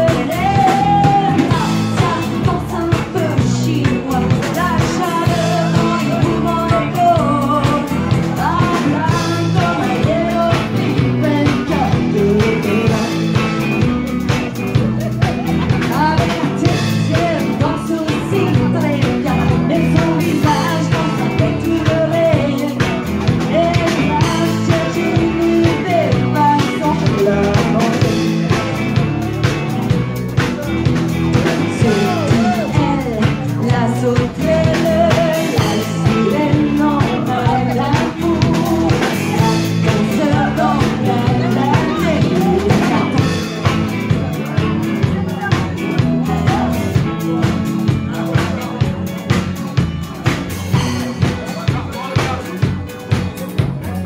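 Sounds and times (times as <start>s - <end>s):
woman singing into microphone: 0.0s - 14.0s, 14.7s - 28.8s, 31.4s - 48.5s
live band playing: 0.0s - 54.0s
steady drum beat: 0.0s - 54.0s.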